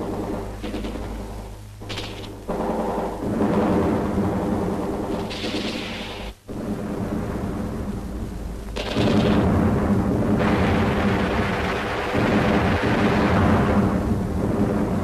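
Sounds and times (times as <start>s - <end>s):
rumble of explosions: 0.0s - 15.0s.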